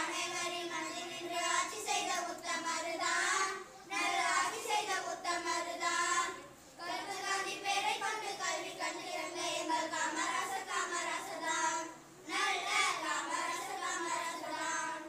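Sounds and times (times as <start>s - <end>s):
children singing into microphone: 0.0s - 15.0s.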